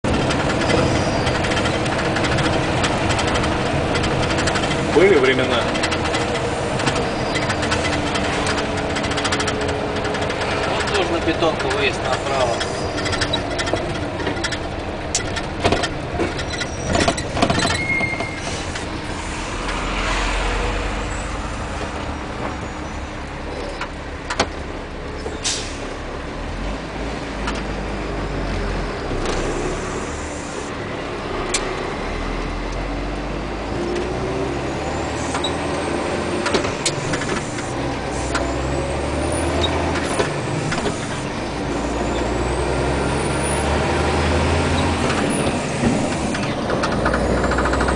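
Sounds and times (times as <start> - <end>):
diesel engine running: 0.0 - 47.9
road noise: 0.0 - 47.9.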